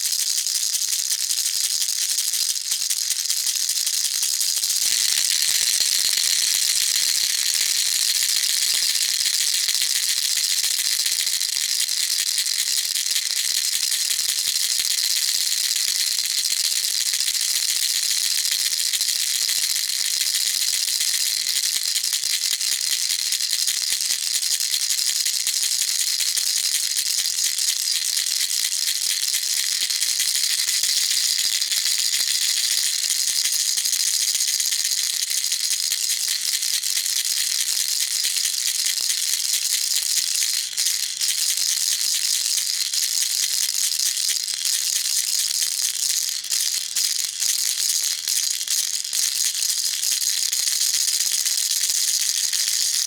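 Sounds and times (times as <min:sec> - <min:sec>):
baby rattle shaking: 0:00.0 - 0:53.0.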